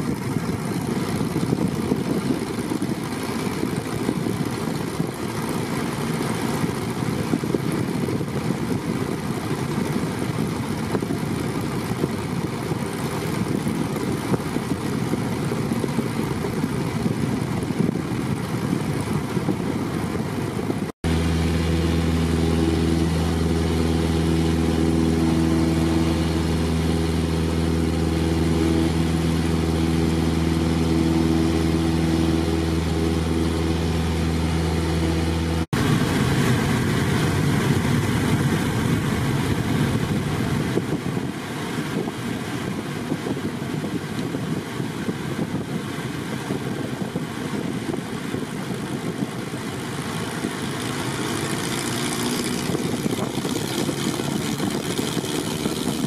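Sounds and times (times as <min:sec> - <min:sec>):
propeller plane engine droning: 0:00.0 - 0:56.0
rush of air over engine: 0:00.0 - 0:56.0.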